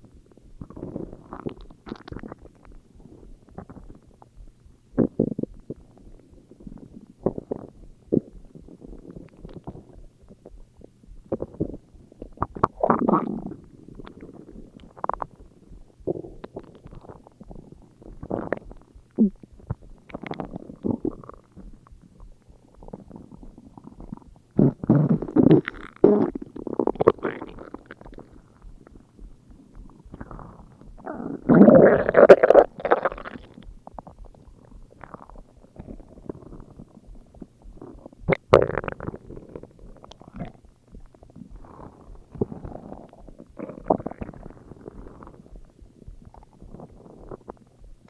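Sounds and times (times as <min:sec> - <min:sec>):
stomach growling: 0:00.0 - 0:48.0.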